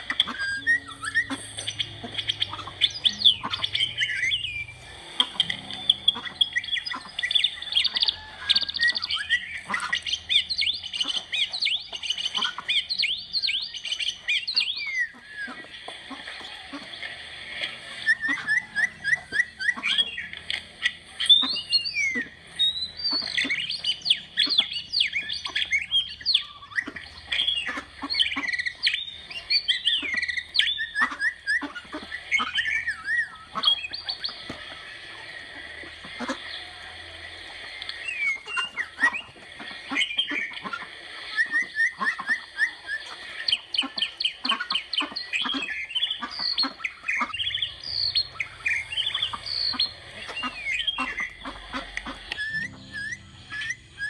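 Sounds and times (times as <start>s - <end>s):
high background drone: 0.0s - 12.4s, 13.0s - 43.5s, 47.0s - 54.0s
birds chirping: 0.0s - 54.0s.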